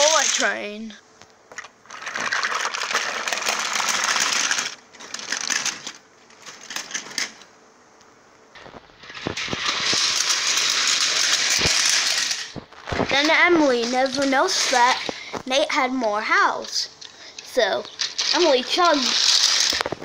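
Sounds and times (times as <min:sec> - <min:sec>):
toy train rattling and scraping: 0:00.0 - 0:00.9, 0:01.5 - 0:07.5, 0:08.6 - 0:20.0.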